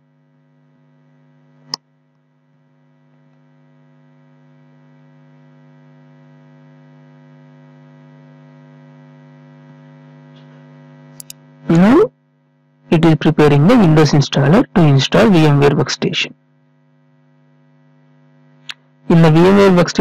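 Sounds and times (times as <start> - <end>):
electrical hum: 1.5 - 12.1, 12.9 - 20.0.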